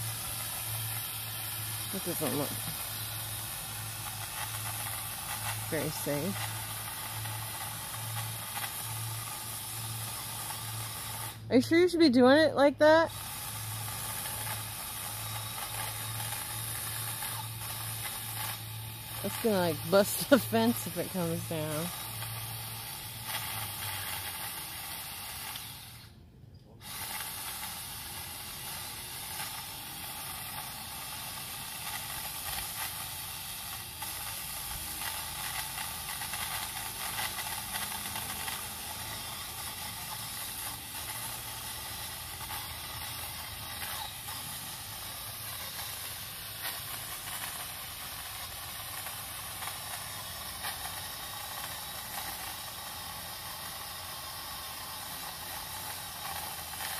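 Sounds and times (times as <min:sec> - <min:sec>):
pole saw cutting branch: 0:00.0 - 0:26.2, 0:26.8 - 0:56.9.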